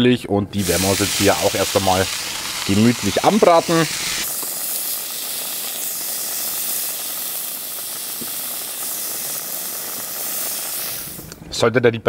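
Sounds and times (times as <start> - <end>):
bacon sizzling: 0.6 - 11.4.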